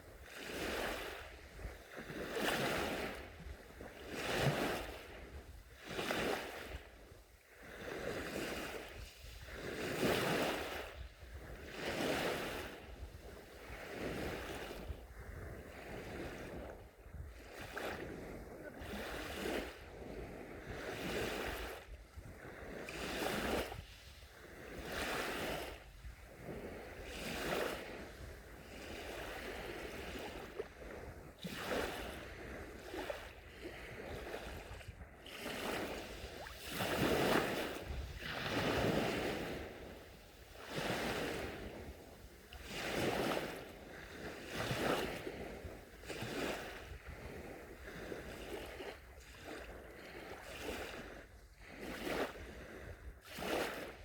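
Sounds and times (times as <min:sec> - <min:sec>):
waves lapping on shore: 0:00.0 - 0:54.0.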